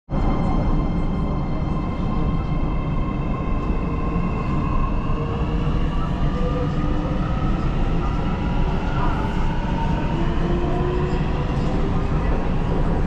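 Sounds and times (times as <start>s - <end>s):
train rumble: 0.1s - 13.0s.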